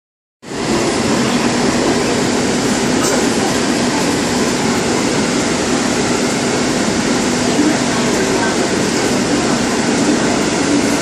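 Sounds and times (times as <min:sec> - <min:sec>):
metro train low hum: 0:00.4 - 0:11.0
station noise: 0:00.5 - 0:11.0.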